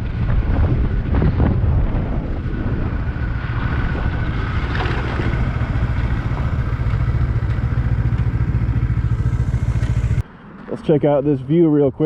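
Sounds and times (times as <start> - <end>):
motorcycle engine running: 0.0 - 10.2
wind buffeting microphone: 0.0 - 10.2.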